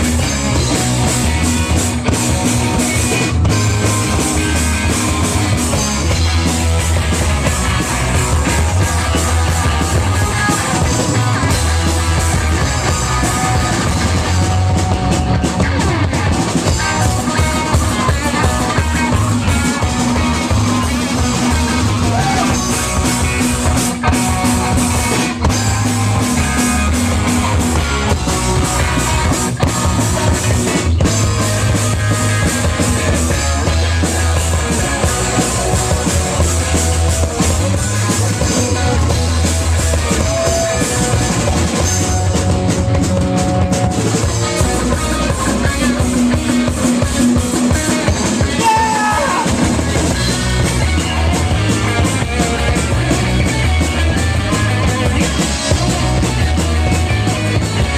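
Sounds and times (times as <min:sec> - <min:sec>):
punk rock band playing: 0:00.0 - 0:57.9.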